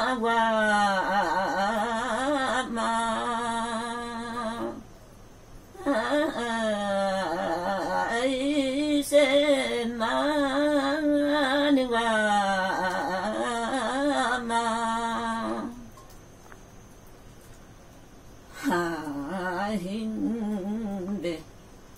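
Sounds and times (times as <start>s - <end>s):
woman singing unaccompanied: 0.0s - 5.0s, 5.7s - 16.1s, 18.4s - 21.6s.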